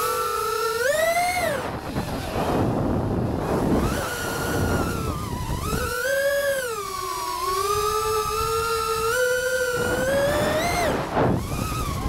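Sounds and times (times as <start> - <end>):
quadcopter motors whining: 0.0 - 12.0
wind on microphone: 0.9 - 12.0.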